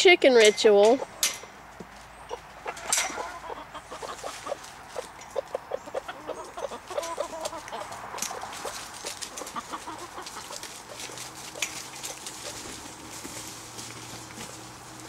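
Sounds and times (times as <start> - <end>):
chickens clucking: 0.8 - 15.0.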